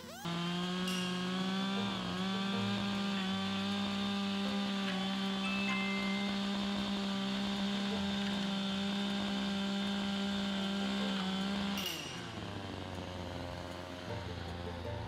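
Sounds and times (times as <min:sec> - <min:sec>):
chainsaw cutting at full throttle: 0:00.0 - 0:15.0.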